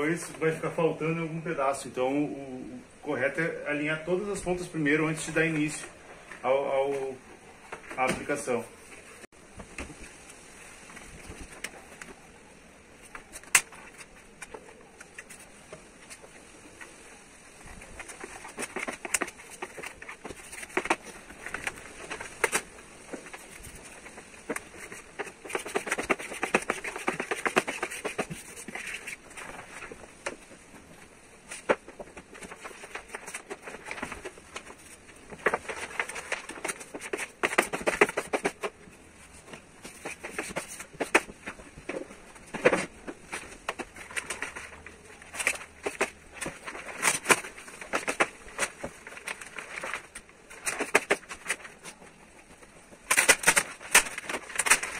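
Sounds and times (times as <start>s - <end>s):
vinyl film crackling and rustling: 0.0s - 2.2s, 2.8s - 54.9s
sharp crinkles and clicks: 5.3s - 12.4s, 13.0s - 54.9s.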